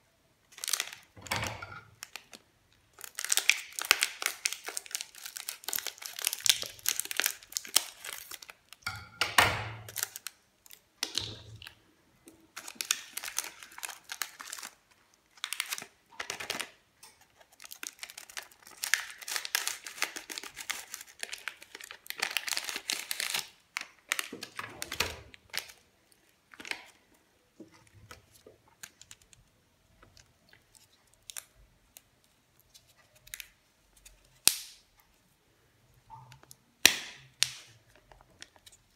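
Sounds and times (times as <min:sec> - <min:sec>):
plastic wrapper crinkling and tearing: 0:00.4 - 0:01.2, 0:01.8 - 0:08.8, 0:09.8 - 0:11.8, 0:12.5 - 0:27.1, 0:27.7 - 0:34.8, 0:36.4 - 0:38.9.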